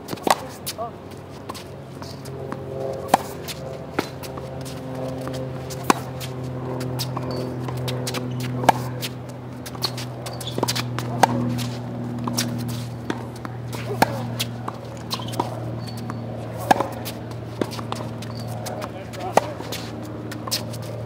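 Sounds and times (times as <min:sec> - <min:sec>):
tennis racquet hitting ball: 0:00.1 - 0:00.8, 0:01.4 - 0:21.0.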